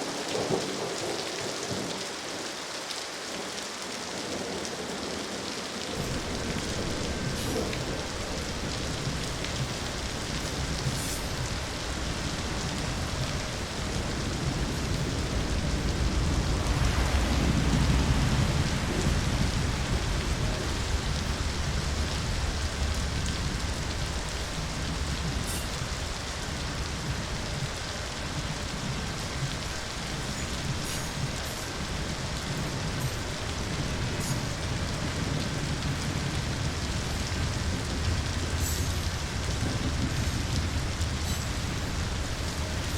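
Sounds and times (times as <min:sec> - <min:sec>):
steady rain: 0:00.0 - 0:42.9
distant thunder rumble: 0:05.8 - 0:42.9.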